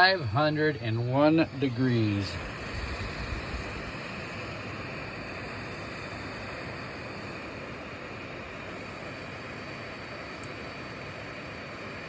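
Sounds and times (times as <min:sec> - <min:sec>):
faint constant whine: 0:00.0 - 0:12.0.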